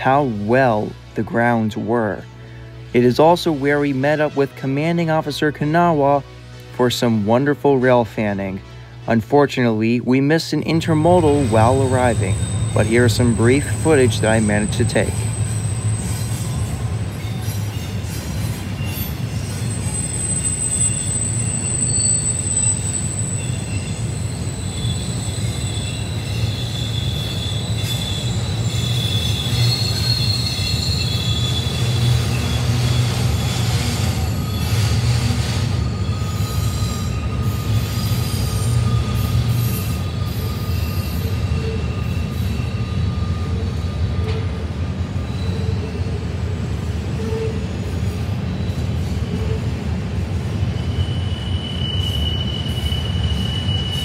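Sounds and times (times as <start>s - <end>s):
freight train rumbling past: 0.0s - 54.0s
wheels squealing against rails: 10.6s - 54.0s.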